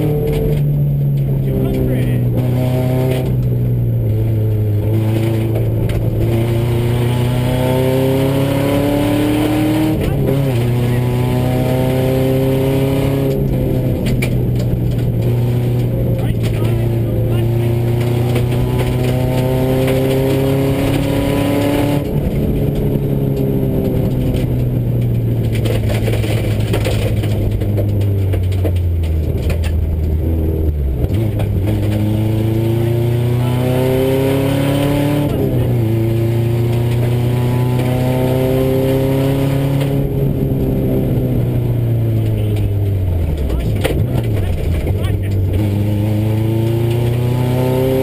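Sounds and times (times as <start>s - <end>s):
rally car engine revving: 0.0s - 48.0s
road and gravel noise: 0.0s - 48.0s.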